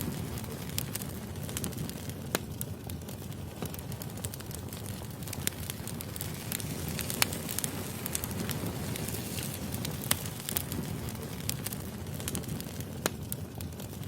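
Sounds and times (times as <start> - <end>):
firewood crackling: 0.0 - 14.0.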